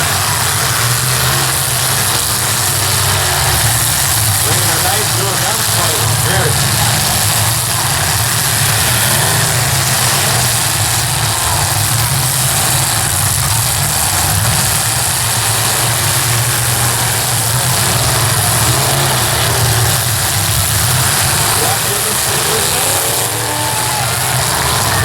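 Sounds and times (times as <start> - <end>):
car engines rumbling: 0.0 - 25.0.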